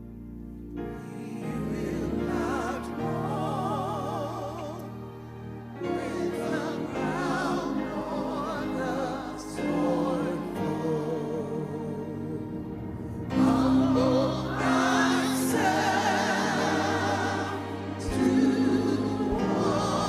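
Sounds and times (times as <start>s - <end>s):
held accompaniment chords: 0.0s - 20.0s
singing with wide vibrato: 1.0s - 20.0s.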